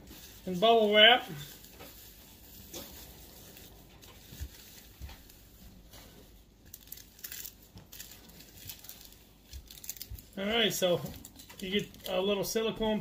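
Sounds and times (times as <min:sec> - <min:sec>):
bubble wrap crinkling: 0:00.0 - 0:12.7.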